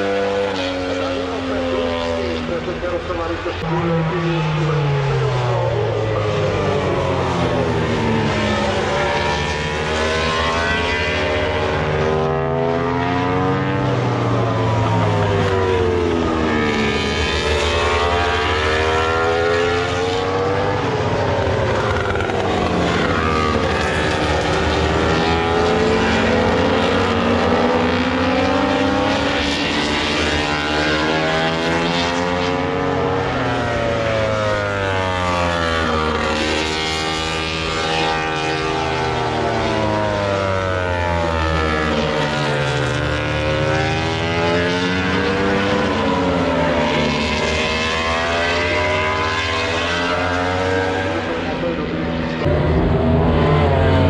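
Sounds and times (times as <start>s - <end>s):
racing motorcycle engines: 0.0s - 54.0s.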